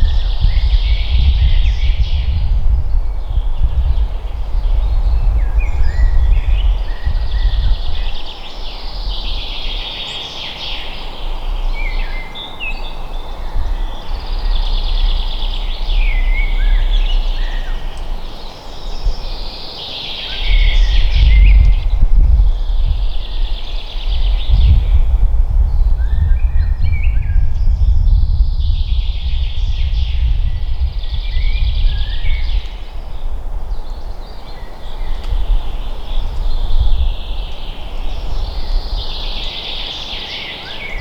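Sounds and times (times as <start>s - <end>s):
low wind rumble: 0.0s - 41.0s
songbirds singing: 0.0s - 41.0s.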